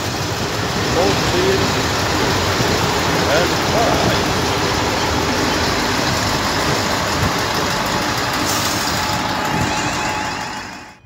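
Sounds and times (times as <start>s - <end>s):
diesel trains passing at speed: 0.0s - 11.0s.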